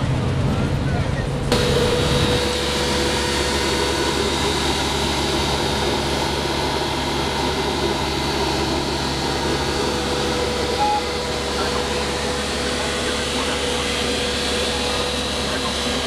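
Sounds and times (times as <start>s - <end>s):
street sweeper engine whine: 0.0s - 16.0s.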